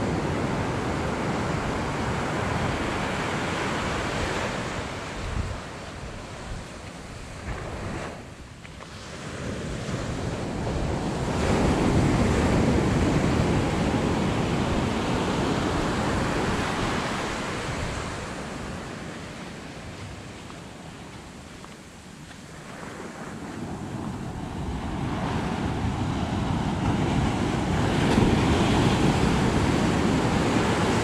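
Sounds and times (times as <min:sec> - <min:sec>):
ocean waves breaking on beach: 0:00.0 - 0:31.0.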